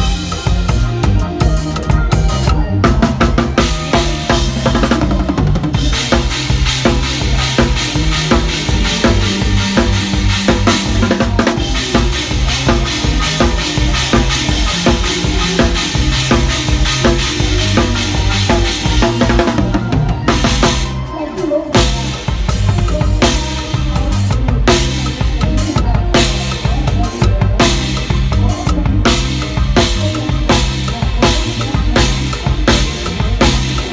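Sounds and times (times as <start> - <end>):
instrumental band music: 0.0 - 33.9.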